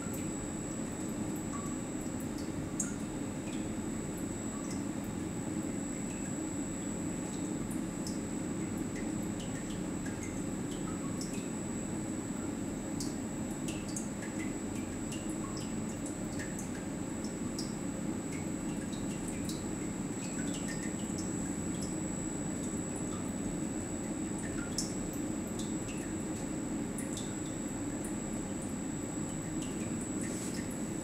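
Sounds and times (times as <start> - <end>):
pump low hum: 0.0 - 31.0
liquid dripping: 1.0 - 4.9, 5.6 - 6.4, 7.2 - 11.5, 12.4 - 31.0.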